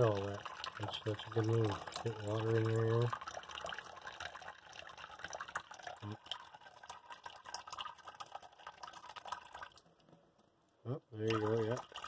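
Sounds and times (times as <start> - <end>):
tap water splashing into sink: 0.0 - 10.1, 11.2 - 12.0.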